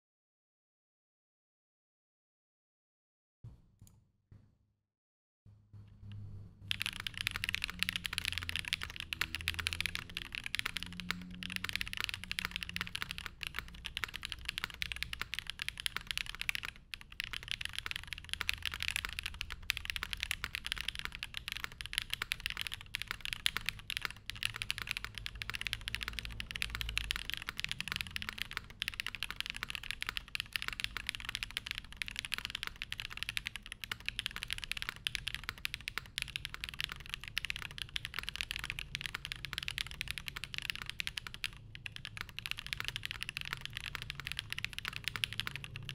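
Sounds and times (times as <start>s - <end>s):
mechanical keyboard typing: 6.0s - 45.9s.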